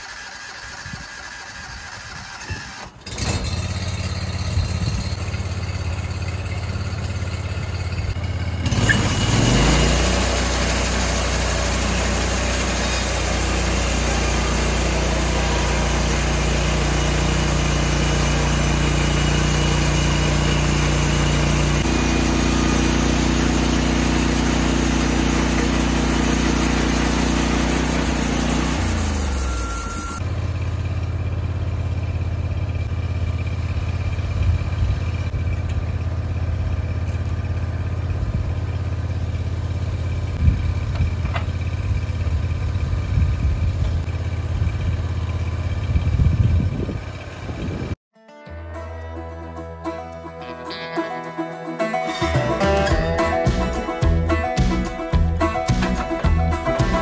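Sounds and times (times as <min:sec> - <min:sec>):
gas engine idling and revving: 0:00.0 - 0:48.0, 0:52.0 - 0:57.0.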